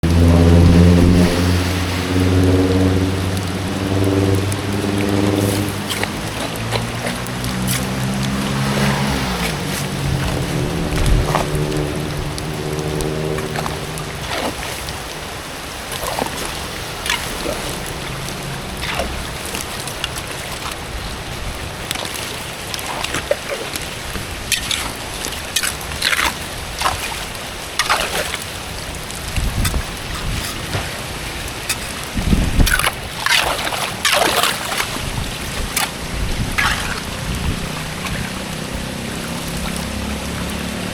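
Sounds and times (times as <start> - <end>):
moving water wash: 0.0 - 40.9
water splashing: 0.0 - 40.9.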